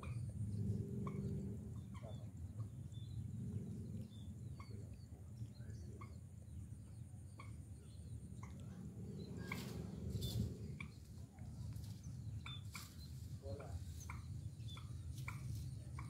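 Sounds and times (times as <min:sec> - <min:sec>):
faint low rumble: 0:00.0 - 0:16.0
small birds chirping: 0:00.0 - 0:16.0.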